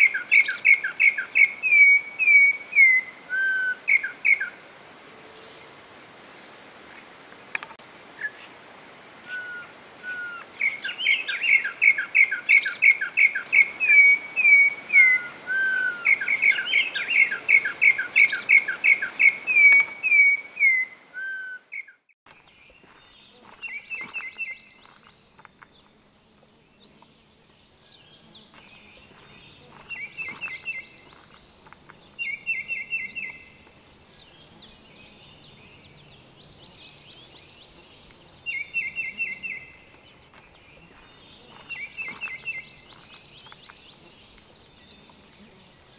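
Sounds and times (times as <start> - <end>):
bird singing whistled runs: 0.0 - 4.6, 9.2 - 26.0, 27.6 - 45.9.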